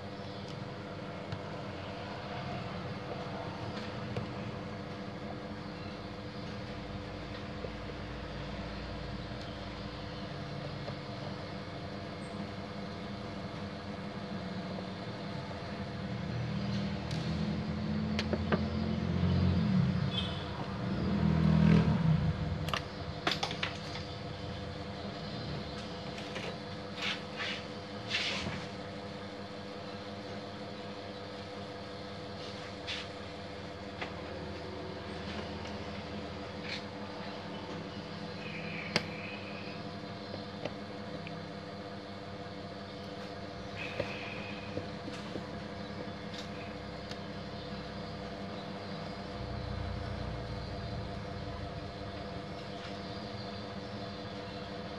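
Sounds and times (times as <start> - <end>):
steady background hum: 0.0 - 54.9.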